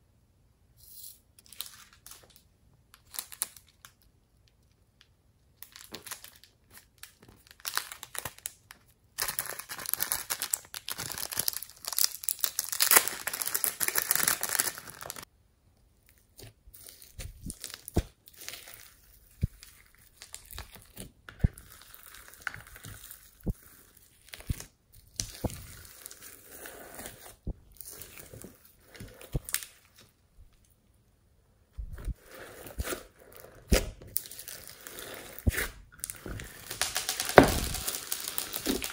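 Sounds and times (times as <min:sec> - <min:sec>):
slime crackling and crinkling: 0:05.6 - 0:15.3, 0:16.0 - 0:30.7, 0:31.8 - 0:38.9.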